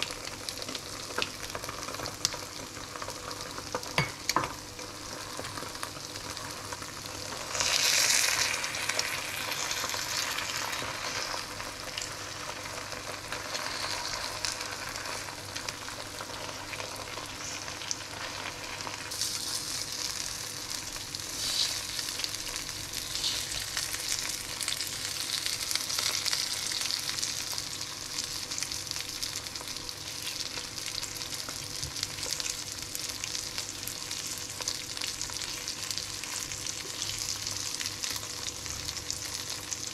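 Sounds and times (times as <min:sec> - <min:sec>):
eggs sizzling in a pan: 0:00.0 - 0:39.9.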